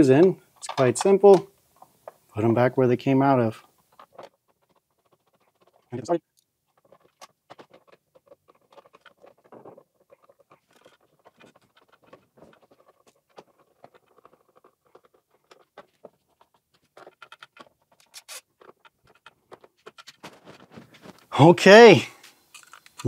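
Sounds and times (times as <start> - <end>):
screwdriver clicking and scraping: 0.1 - 2.2, 3.9 - 21.3, 22.2 - 23.0.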